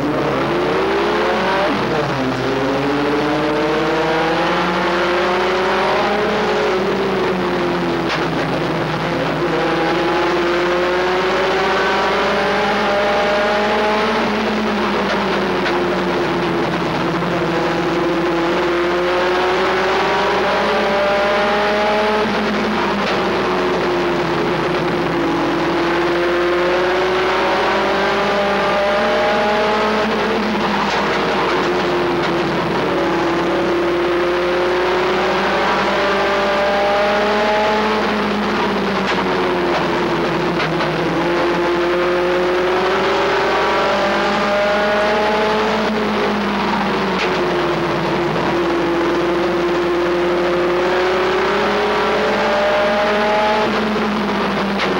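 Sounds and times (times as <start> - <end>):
race truck engine revving: 0.0 - 54.9
road and wind noise: 0.0 - 54.9.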